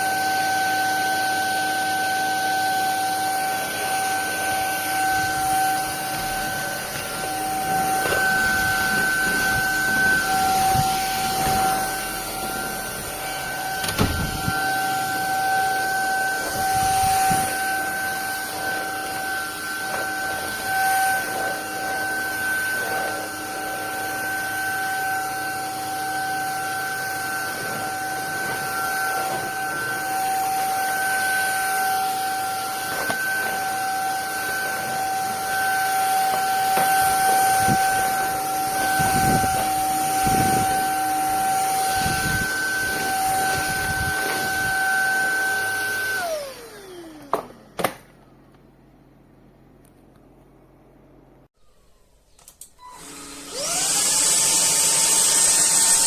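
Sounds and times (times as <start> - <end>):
vacuum cleaner whine and hiss: 0.0 - 48.4, 51.6 - 56.0.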